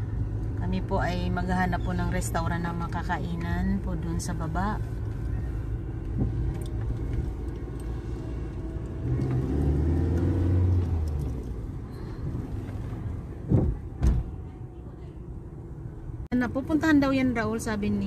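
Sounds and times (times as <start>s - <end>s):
car engine: 0.0s - 18.0s
road noise: 0.0s - 18.0s.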